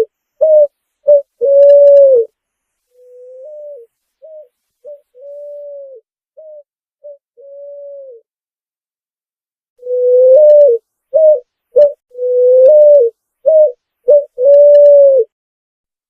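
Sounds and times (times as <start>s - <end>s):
pigeon cooing: 0.0s - 2.3s, 3.0s - 8.2s, 9.8s - 15.4s.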